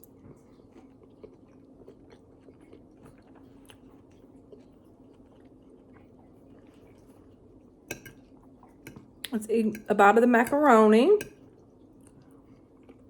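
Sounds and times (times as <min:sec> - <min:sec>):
chewing food: 0:00.0 - 0:09.9, 0:11.2 - 0:13.0.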